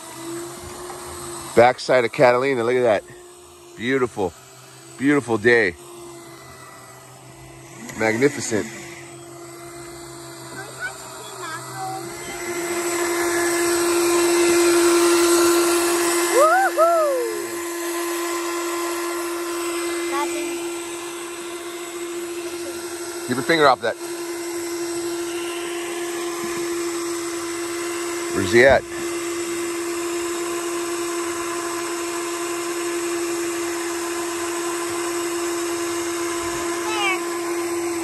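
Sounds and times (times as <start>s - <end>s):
fishing reel motor whining: 0.0s - 38.0s.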